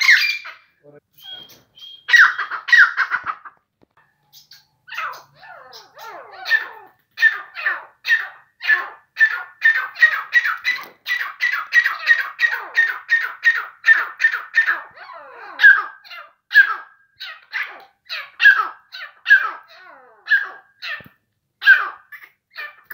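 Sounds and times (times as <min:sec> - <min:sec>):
birds giving harsh calls: 0:00.0 - 0:22.9.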